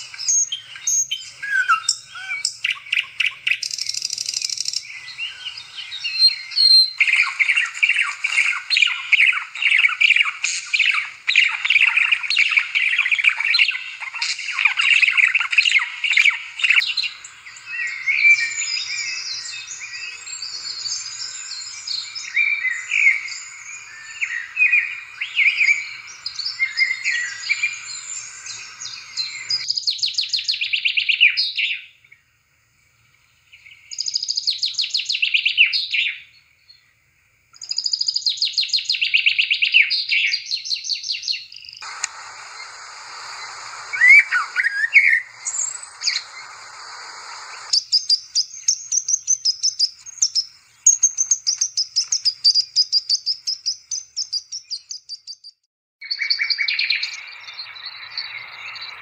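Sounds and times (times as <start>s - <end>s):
birds chirping: 0.0s - 31.8s, 37.6s - 59.0s.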